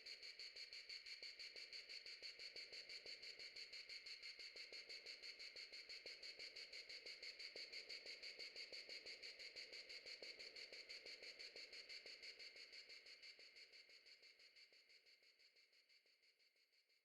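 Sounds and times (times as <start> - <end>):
rapid insect-like chirping pulse: 0.0 - 15.6.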